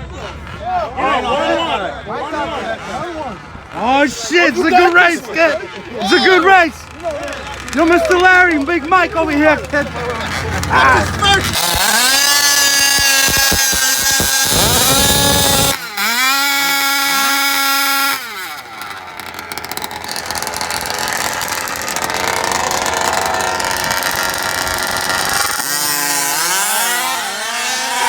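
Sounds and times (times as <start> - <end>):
small two-stroke engines revving: 0.0 - 28.0.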